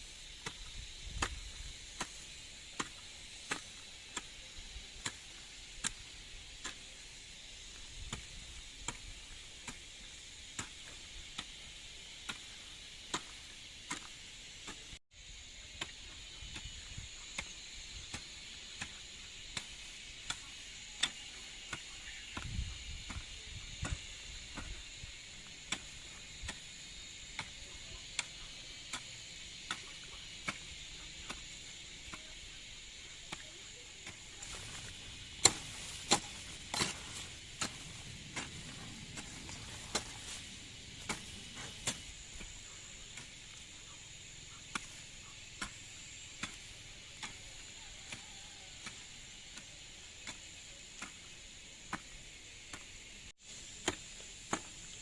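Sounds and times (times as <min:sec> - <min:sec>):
insects droning: 0:00.0 - 0:55.0
hand tool chopping: 0:00.4 - 0:14.9, 0:18.1 - 0:43.9, 0:44.7 - 0:52.1, 0:53.8 - 0:55.0.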